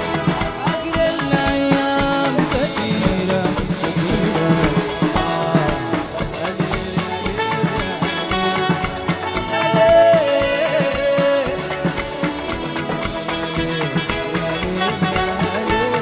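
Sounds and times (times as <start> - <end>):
live band playing popular music: 0.0 - 16.0.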